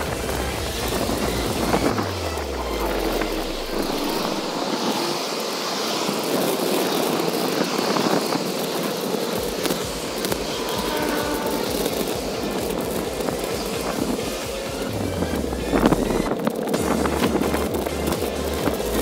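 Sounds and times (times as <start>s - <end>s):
bicycle tyres rolling on pavement: 0.0s - 19.0s
cars passing: 0.0s - 19.0s
wind on microphone: 0.0s - 19.0s.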